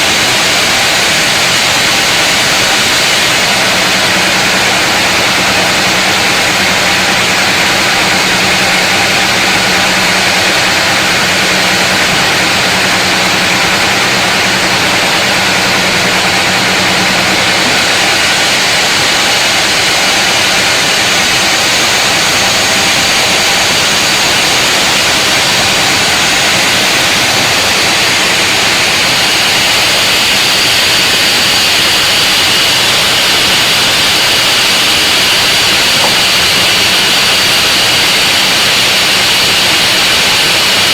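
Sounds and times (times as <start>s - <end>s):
power saw cutting log: 0.0s - 40.9s.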